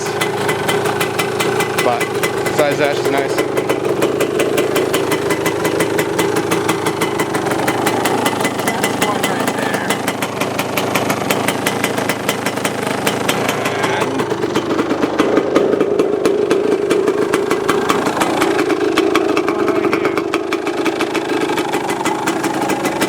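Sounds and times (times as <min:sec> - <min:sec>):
two-stroke engine idling: 0:00.0 - 0:23.0.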